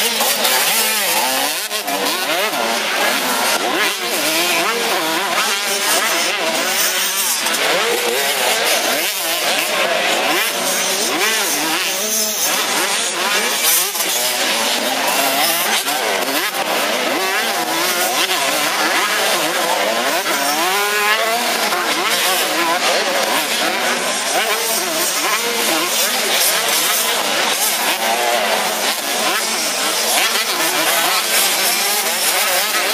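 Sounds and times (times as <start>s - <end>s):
motocross bikes revving: 0.0s - 32.9s.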